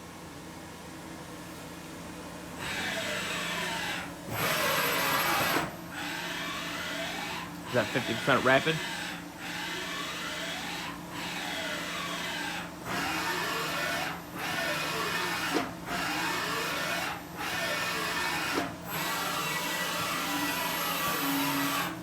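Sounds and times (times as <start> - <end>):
machine servo motor whine: 2.6 - 22.0.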